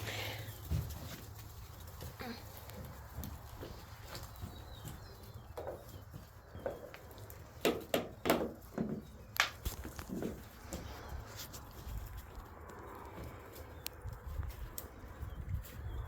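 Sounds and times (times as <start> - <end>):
puppies scuffling: 0.0 - 16.0.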